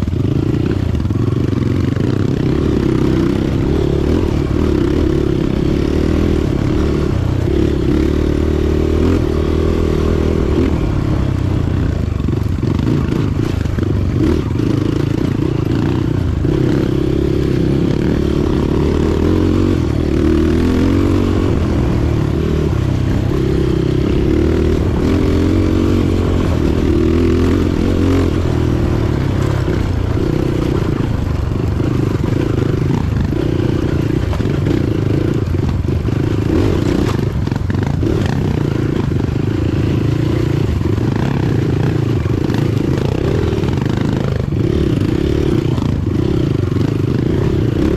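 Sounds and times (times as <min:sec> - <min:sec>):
motorcycle engine droning: 0:00.0 - 0:47.9.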